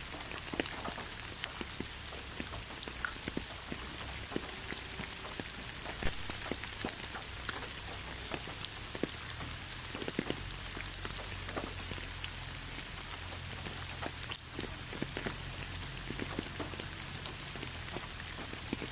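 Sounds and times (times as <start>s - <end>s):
raindrops ticking on surface: 0.0s - 18.9s
steady rain hiss: 0.0s - 18.9s.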